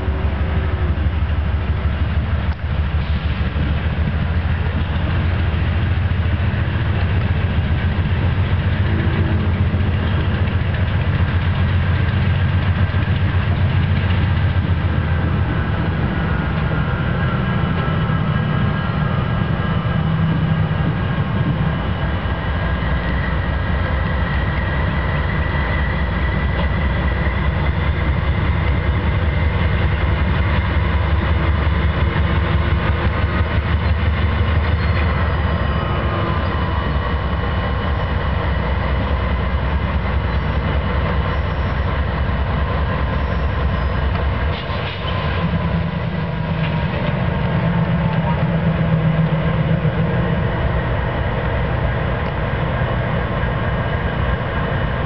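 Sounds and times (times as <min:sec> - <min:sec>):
diesel locomotive low rumble: 0:00.0 - 0:55.0.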